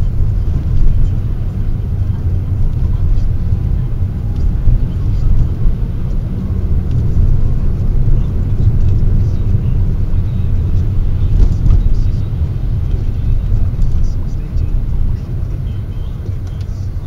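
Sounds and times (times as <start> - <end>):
car engine rumble: 0.0 - 17.0
road noise in car: 0.0 - 17.0.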